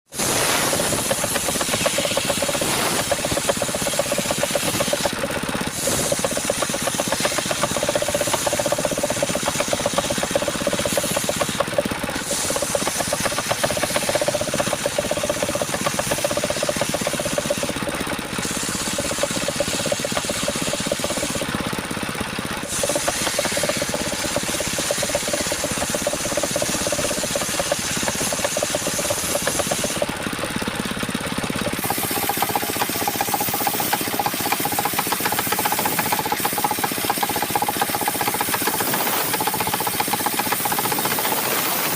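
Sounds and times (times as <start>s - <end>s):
circular saw cutting wood: 0.1s - 30.4s, 31.3s - 41.9s.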